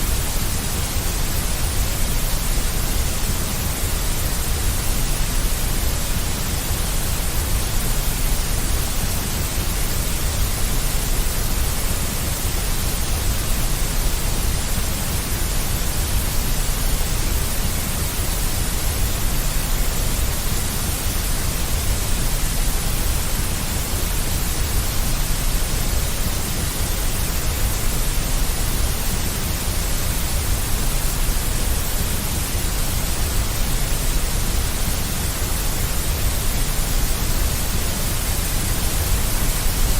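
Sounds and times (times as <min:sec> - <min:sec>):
deep synthetic white noise: 0:00.0 - 0:39.9.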